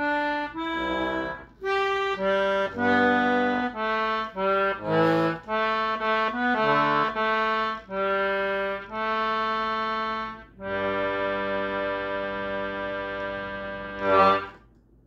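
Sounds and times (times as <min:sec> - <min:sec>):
concertina playing chords: 0:00.0 - 0:14.8.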